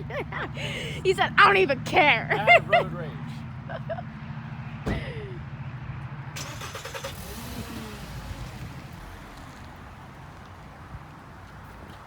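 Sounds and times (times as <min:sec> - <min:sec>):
low car rumble: 0:00.0 - 0:12.0.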